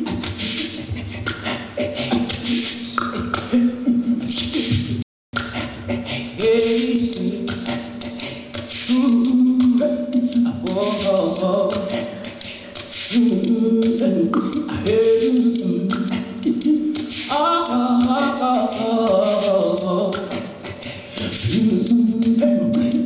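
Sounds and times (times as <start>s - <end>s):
dry rattling percussion: 0.0s - 3.6s, 4.3s - 23.0s
voices singing in harmony: 0.0s - 23.0s.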